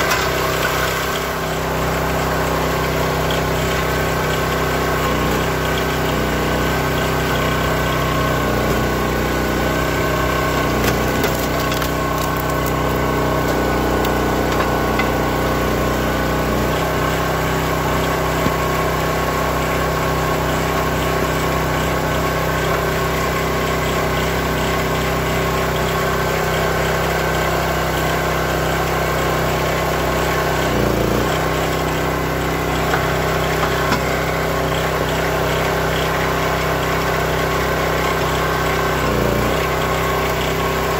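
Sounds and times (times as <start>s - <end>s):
log splitter engine running: 0.0s - 40.9s.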